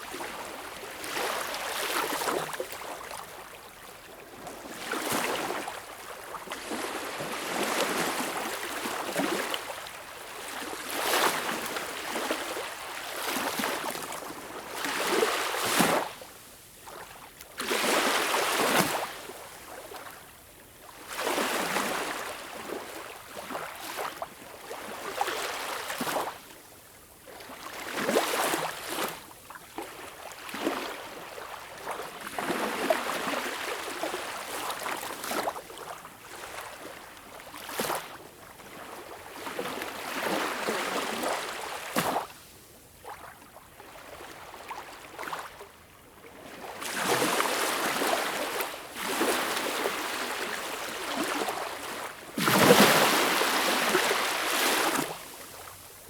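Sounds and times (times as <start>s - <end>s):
small waves lapping on beach: 0.0s - 56.0s.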